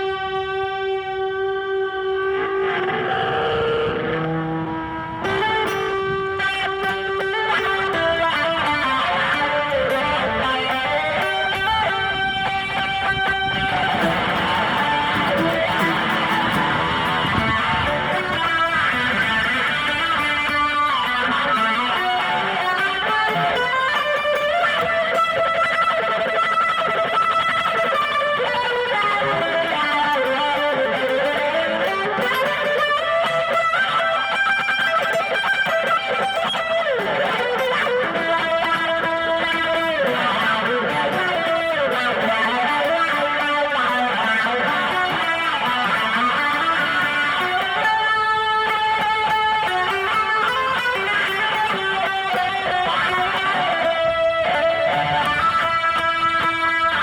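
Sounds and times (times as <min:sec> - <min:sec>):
amplified guitar improvisation: 0:00.0 - 0:57.0.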